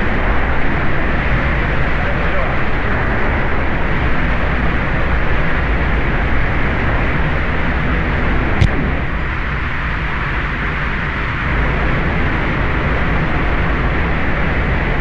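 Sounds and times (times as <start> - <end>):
loud steady rushing noise: 0.0 - 15.0.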